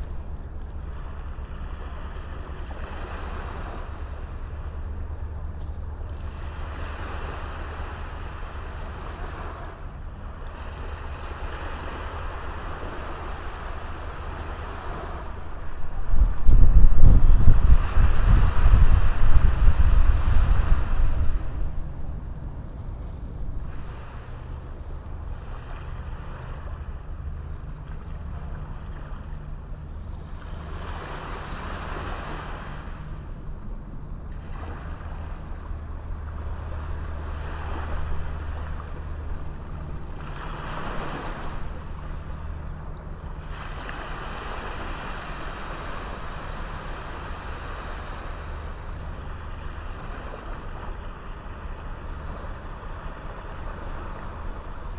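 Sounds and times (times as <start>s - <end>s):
small waves breaking on beach: 0.0s - 4.8s, 6.1s - 22.3s, 23.1s - 33.6s, 34.3s - 54.9s.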